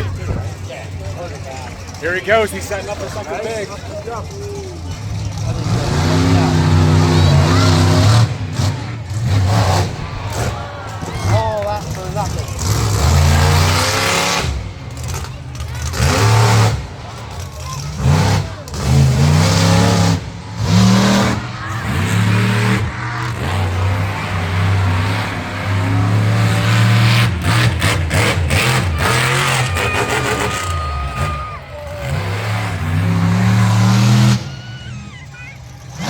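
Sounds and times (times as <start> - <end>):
monster truck engine revving: 0.0 - 36.0.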